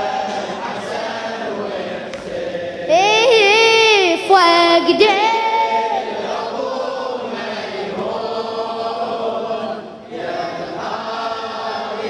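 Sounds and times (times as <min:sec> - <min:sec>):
group of voices chanting: 0:00.0 - 0:12.0.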